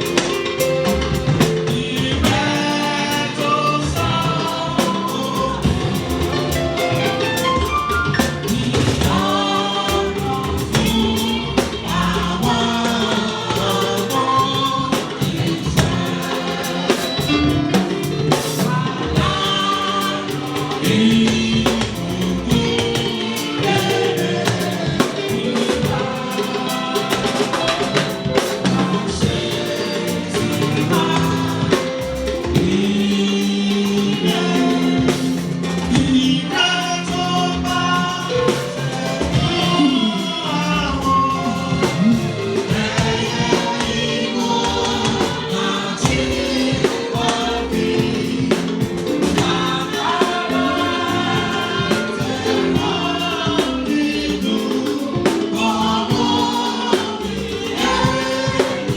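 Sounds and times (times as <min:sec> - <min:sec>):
choir and congregation singing hymn: 0:00.0 - 0:58.9
drum kit and percussion: 0:00.0 - 0:58.9.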